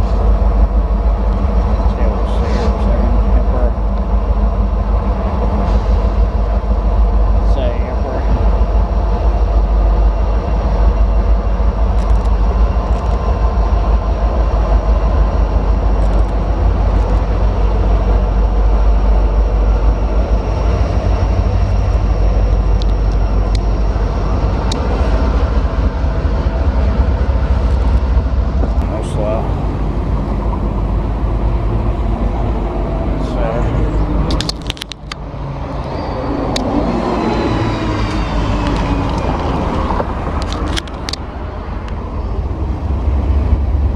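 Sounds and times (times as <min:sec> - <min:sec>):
freight train passing: 0:00.0 - 0:43.9.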